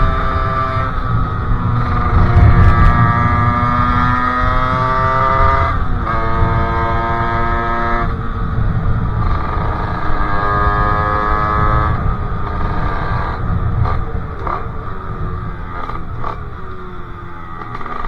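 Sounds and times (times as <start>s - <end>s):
heavy low rumble: 0.0s - 17.9s
two-stroke engine revving: 0.0s - 18.0s.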